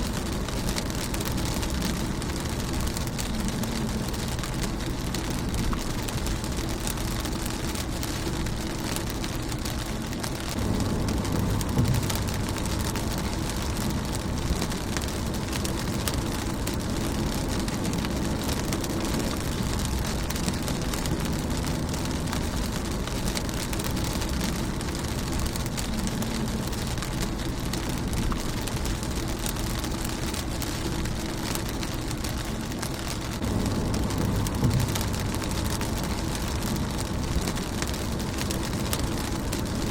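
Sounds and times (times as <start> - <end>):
low rumble: 0.0 - 39.9
rain on car windshield: 0.0 - 39.9.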